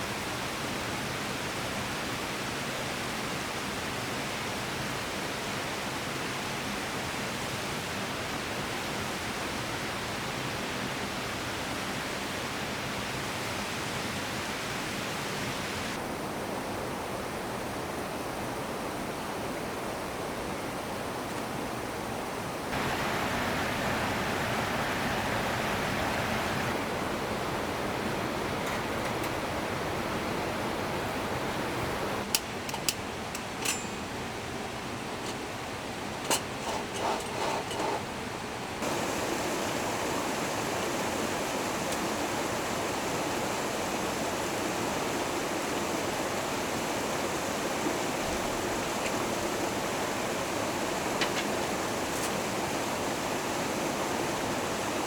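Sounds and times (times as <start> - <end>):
stream flowing: 0.0 - 32.3, 38.6 - 55.0.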